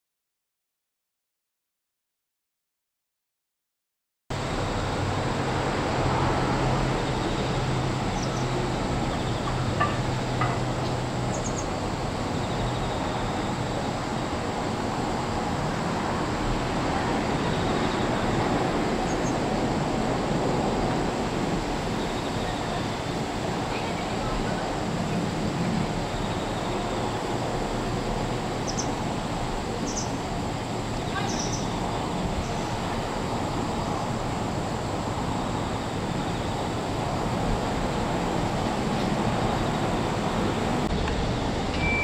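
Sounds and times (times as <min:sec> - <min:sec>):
distant traffic hum: 0:04.3 - 0:42.0.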